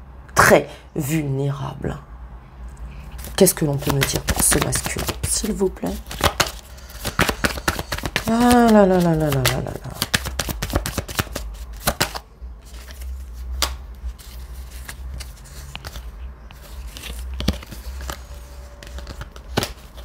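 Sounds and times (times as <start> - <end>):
cards shuffling: 2.9 - 20.0.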